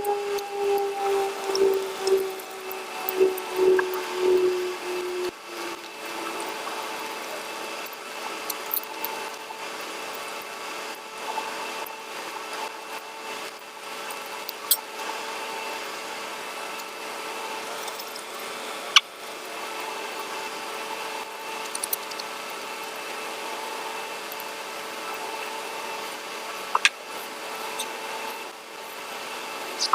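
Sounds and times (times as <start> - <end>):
background hum: 0.0 - 29.9.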